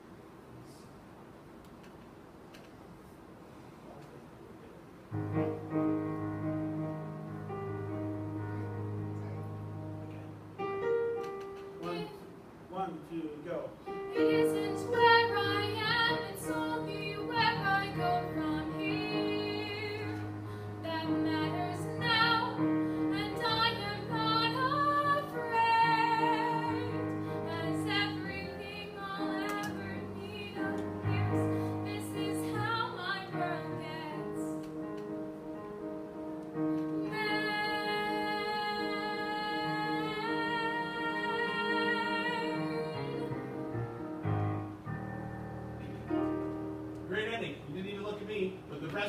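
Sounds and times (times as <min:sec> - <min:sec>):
piano accompaniment: 0:05.1 - 0:12.6, 0:13.5 - 0:49.0.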